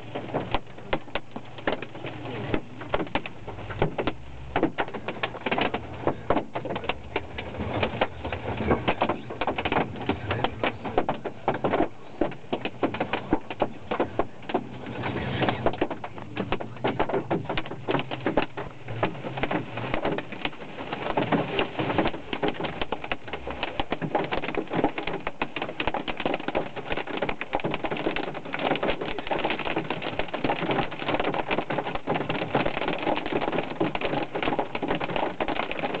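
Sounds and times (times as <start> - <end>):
hail clattering on car roof: 0.0 - 36.0.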